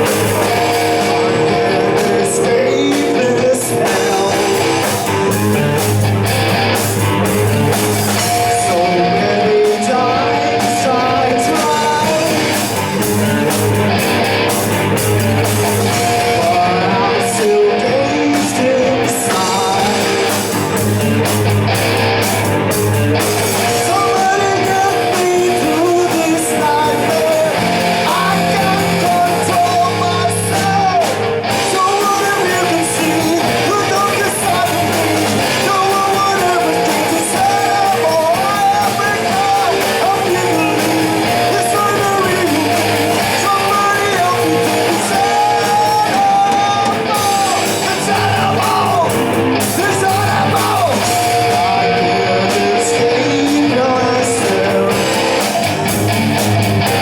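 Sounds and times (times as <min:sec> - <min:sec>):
person singing: 0:00.0 - 0:05.8, 0:06.7 - 0:14.6, 0:15.3 - 0:21.0, 0:23.1 - 0:56.0
electric guitar: 0:00.0 - 0:57.0.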